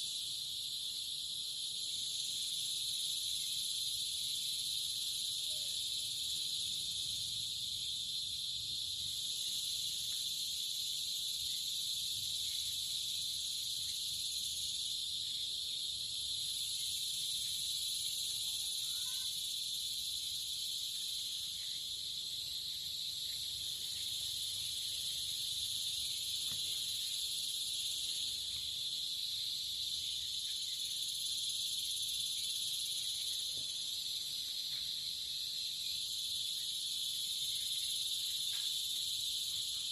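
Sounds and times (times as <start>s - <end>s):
insect chorus shrilling: 0.0s - 39.9s.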